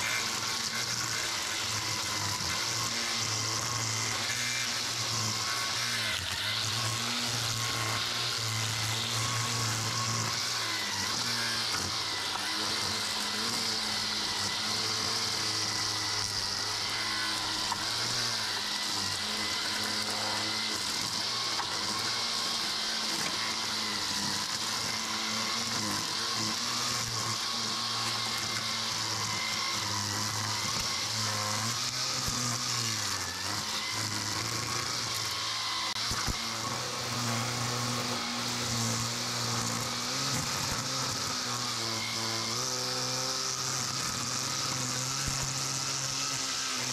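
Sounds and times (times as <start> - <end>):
string trimmer cutting grass: 0.0 - 46.9.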